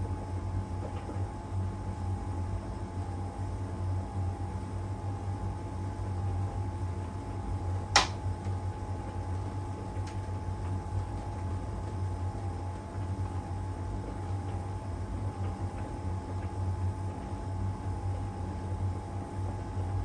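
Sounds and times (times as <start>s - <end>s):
tumble dryer humming and whining: 0.0s - 20.0s.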